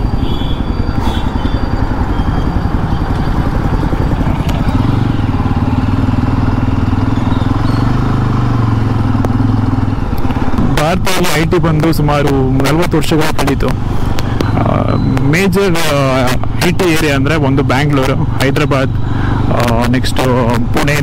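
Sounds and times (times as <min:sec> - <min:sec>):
road and wind noise: 0:00.0 - 0:21.0
vehicle engine running: 0:00.0 - 0:21.0.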